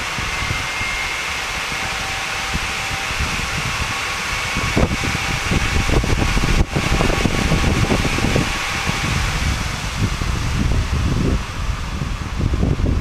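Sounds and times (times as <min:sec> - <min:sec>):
faint steady whine: 0:00.0 - 0:13.0
turbojet roaring: 0:00.0 - 0:13.0.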